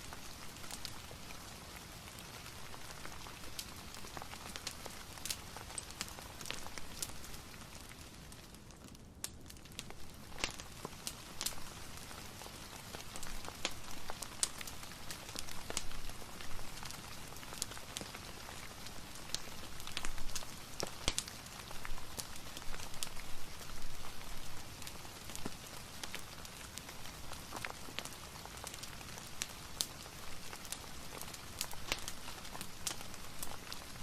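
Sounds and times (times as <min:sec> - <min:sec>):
rain hiss: 0:00.0 - 0:08.6, 0:09.8 - 0:34.0
fire crackling and popping: 0:00.0 - 0:34.0.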